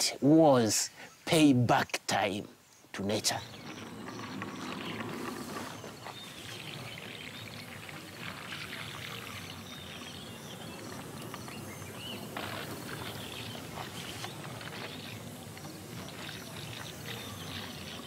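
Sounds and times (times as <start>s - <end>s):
steady rushing noise: 3.3s - 18.0s.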